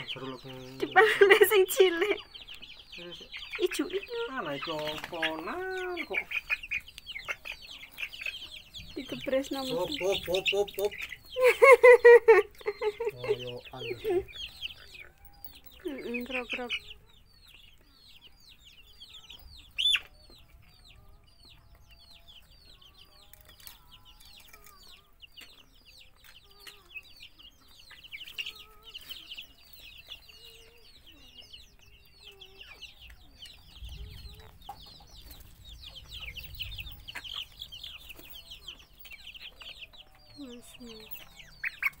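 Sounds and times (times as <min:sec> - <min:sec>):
chickens peeping: 0:00.0 - 0:42.0.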